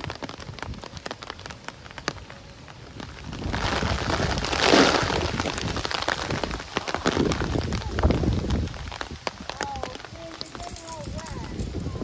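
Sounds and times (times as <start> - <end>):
raindrops ticking: 0.0 - 12.0
steady rain falling: 0.0 - 12.0.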